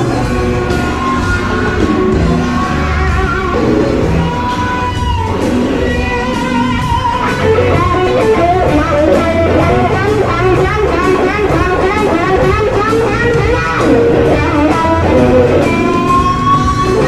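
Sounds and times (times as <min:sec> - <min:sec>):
blues-rock band playing: 0:00.0 - 0:17.0
lead electric guitar bent notes: 0:00.0 - 0:17.0.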